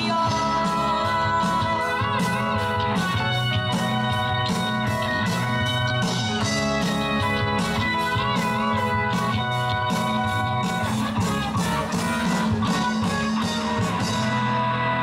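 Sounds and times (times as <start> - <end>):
steady drum beat: 0.0 - 14.6
bass line: 0.0 - 15.0
electric guitars: 0.0 - 15.0.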